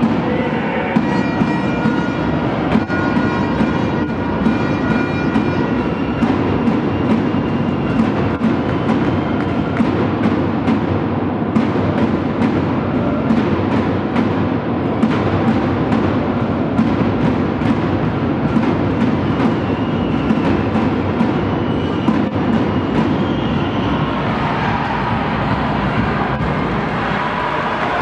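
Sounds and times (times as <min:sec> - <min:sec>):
crowd noise: 0:00.0 - 0:28.0
bass drum beating: 0:01.0 - 0:28.0.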